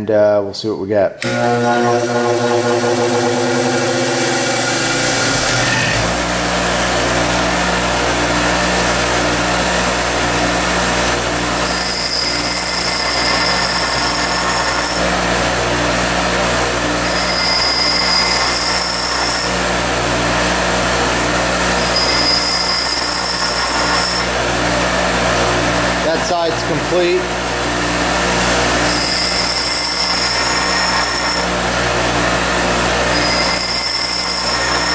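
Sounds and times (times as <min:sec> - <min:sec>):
bench grinder running: 0:01.2 - 0:34.9
drill bit grinding whine: 0:01.2 - 0:34.9.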